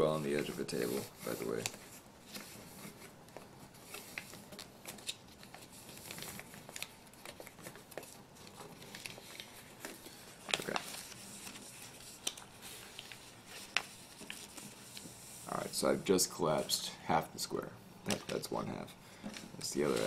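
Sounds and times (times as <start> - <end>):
paper rustling and crackling: 0.2 - 15.9, 18.1 - 20.0
paper crinkle: 0.2 - 16.0, 18.1 - 20.0.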